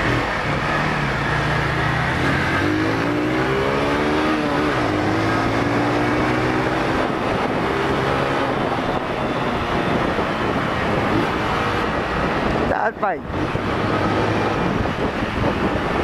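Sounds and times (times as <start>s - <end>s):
motorcycle engine accelerating: 0.0s - 16.0s
wind and road noise: 0.0s - 16.0s.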